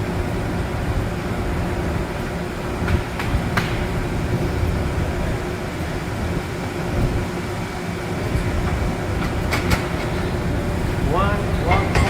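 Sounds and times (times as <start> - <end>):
faint constant hum: 0.0 - 12.0
low machinery rumble: 0.0 - 12.0.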